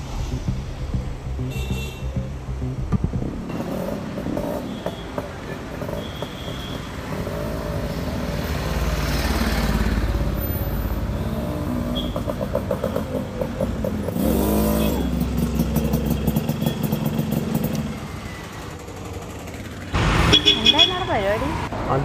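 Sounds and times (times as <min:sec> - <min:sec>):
motorcycle engine revving: 0:00.0 - 0:10.4, 0:11.0 - 0:21.7.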